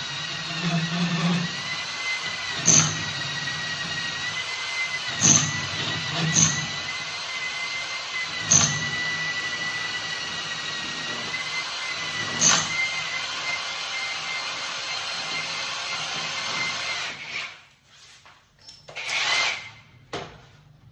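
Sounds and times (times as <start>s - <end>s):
power drill whining: 0.0s - 17.6s, 18.9s - 20.0s.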